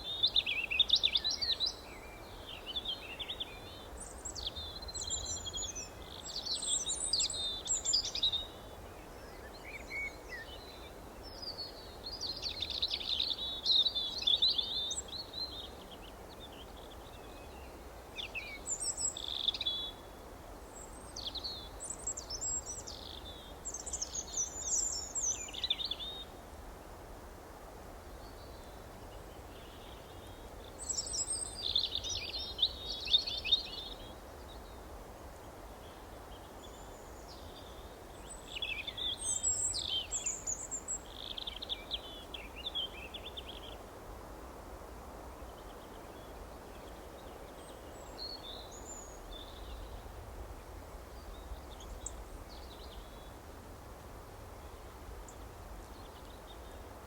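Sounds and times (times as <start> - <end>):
low background hiss: 0.0 - 57.0.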